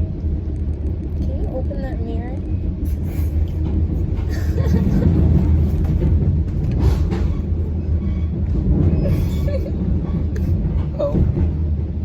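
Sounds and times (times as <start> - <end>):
train clatter: 0.0 - 12.0
train rumbling inside carriage: 0.0 - 12.0.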